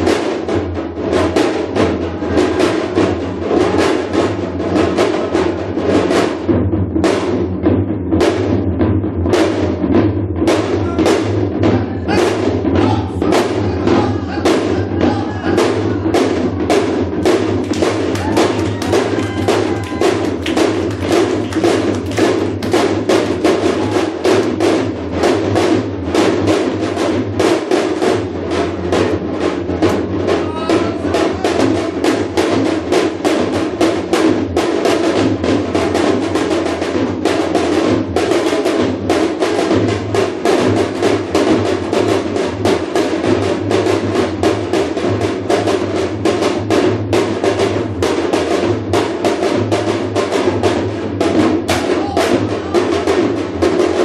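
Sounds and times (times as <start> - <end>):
hourglass drum fast rhythm: 0.0 - 54.0.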